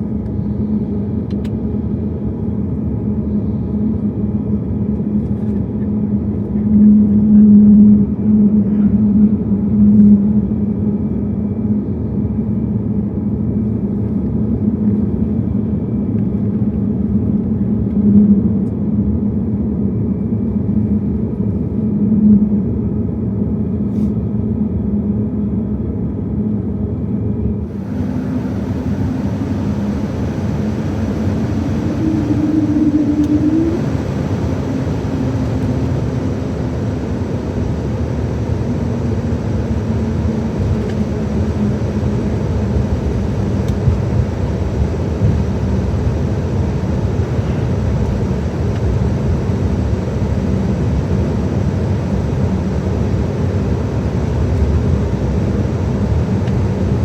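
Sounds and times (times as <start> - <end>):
jet engines rumbling and humming: 0.0 - 57.0.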